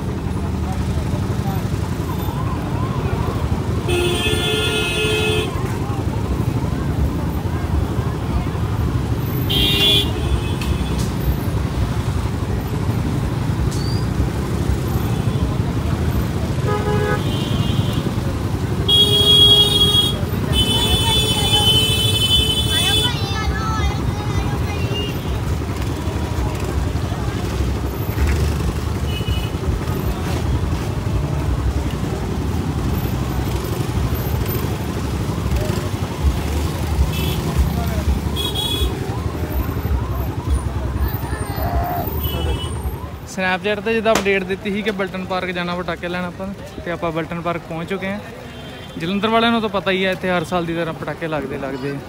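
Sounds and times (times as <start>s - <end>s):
road noise: 0.0s - 52.0s
scooter and motorbike engines: 0.0s - 52.0s.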